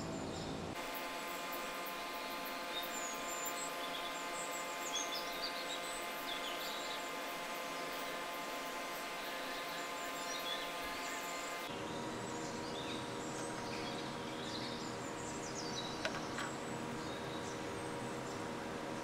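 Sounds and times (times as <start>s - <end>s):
birds chirping: 0.0s - 19.0s
steady background hum: 0.0s - 19.0s.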